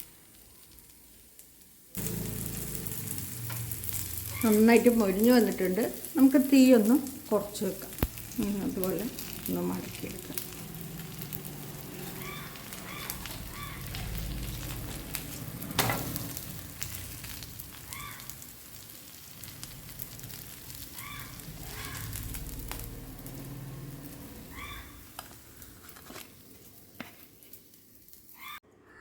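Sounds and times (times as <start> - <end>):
dosa sizzling on a griddle: 0.0 - 28.6.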